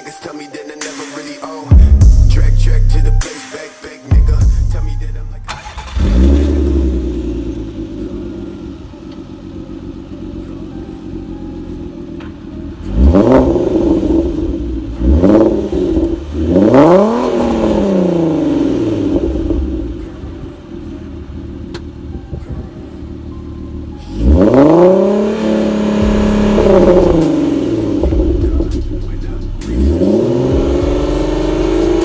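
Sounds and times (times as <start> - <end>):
car engine idling and revving: 1.7 - 3.2, 4.1 - 32.0.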